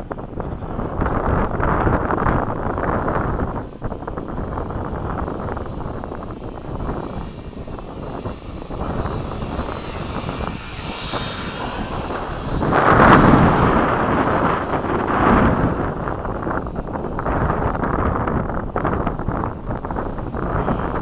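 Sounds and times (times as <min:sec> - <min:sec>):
model airplane motor whine: 0:00.0 - 0:21.0
wind buffeting microphone: 0:00.0 - 0:21.0.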